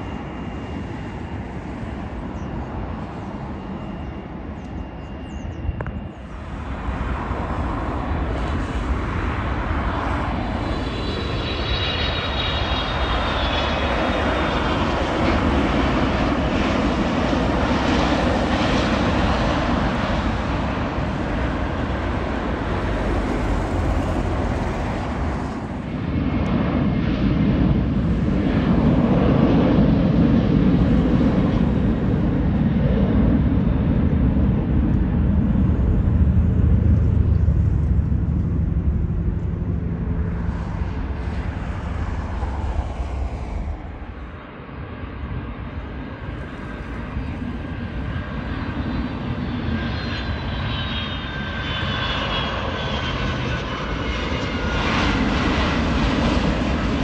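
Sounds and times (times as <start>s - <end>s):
jet airliner engines: 0.0s - 57.0s.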